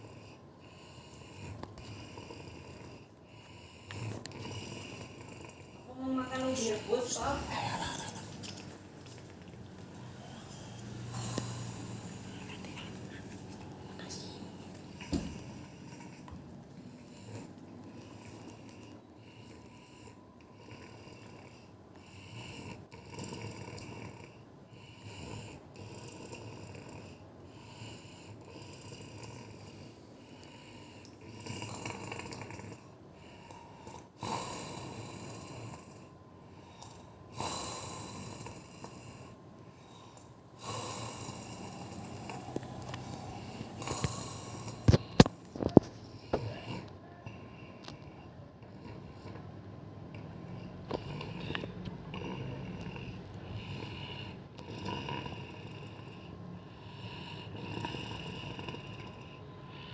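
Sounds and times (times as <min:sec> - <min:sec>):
woman snoring loudly: 0:00.0 - 0:08.1, 0:10.1 - 0:12.7, 0:17.0 - 0:36.1, 0:36.8 - 0:39.4, 0:40.6 - 0:46.9, 0:50.4 - 0:59.9.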